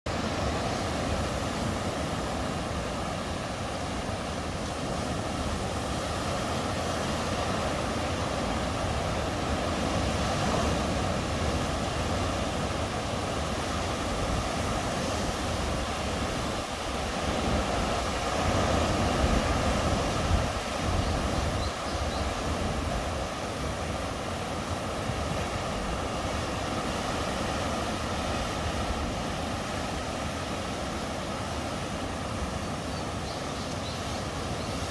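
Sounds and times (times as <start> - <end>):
sea surf washing on shore: 0.1 - 34.9.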